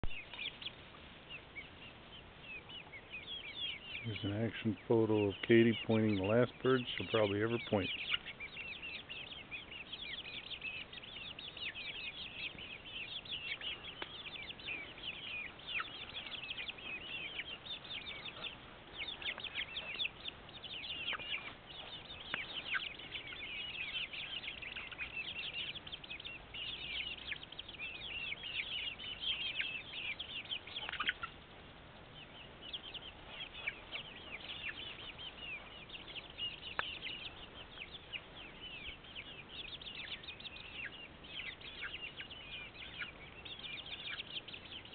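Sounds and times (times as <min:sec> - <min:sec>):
chickens peeping and chirping: 0:00.0 - 0:44.9.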